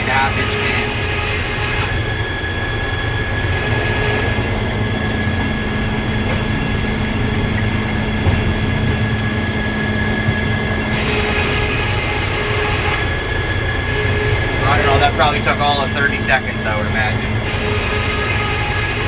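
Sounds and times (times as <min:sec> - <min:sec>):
saw blade high whine: 0:00.0 - 0:19.0
sawmill engine running: 0:00.0 - 0:19.0.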